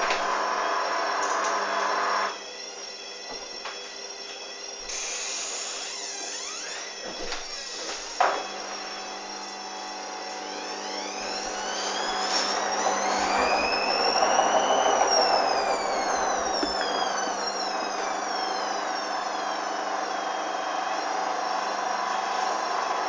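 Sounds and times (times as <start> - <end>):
washing machine motor whine: 0.0 - 23.0.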